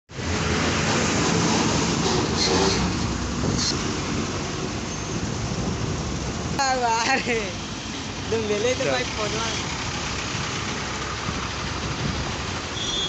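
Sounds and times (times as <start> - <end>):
road and wind noise: 0.1 - 13.0
vehicle engine rumble: 0.1 - 13.0.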